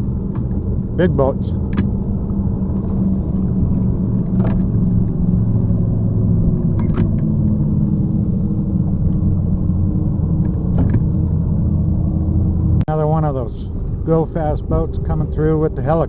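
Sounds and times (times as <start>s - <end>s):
powerboat engines rumbling: 0.0s - 16.0s.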